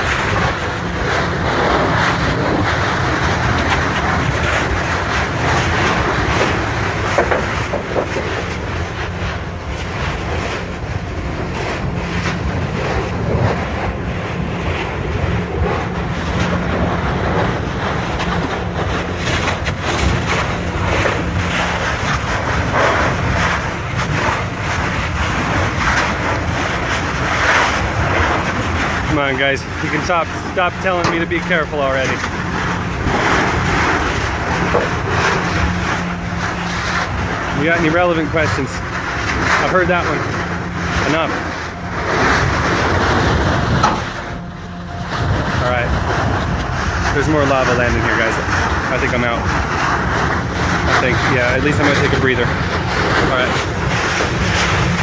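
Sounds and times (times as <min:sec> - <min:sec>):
crackling: 0:00.0 - 0:55.0
lava fissure roaring: 0:00.0 - 0:55.0
wind noise on microphone: 0:00.0 - 0:55.0.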